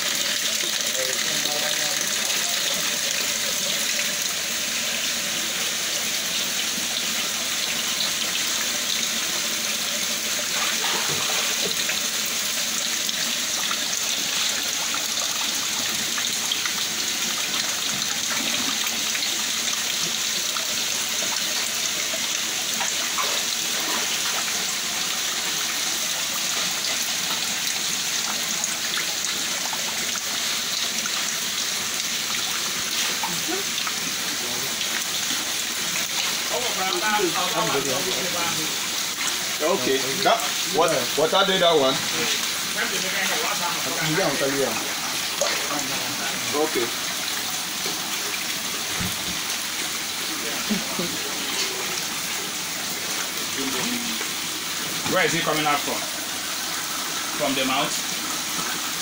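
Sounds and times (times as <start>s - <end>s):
water running into a tank: 0.0s - 59.0s.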